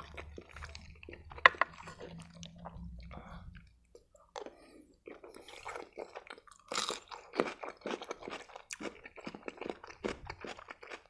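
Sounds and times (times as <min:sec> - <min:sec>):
crunching and chewing pickle: 0:00.0 - 0:02.9, 0:04.0 - 0:11.0.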